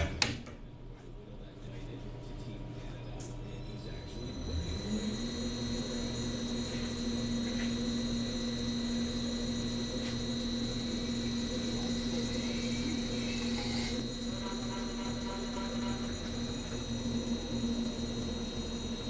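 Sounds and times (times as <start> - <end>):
metalworking machine humming: 2.9 - 19.0
thin high whine: 3.4 - 19.0.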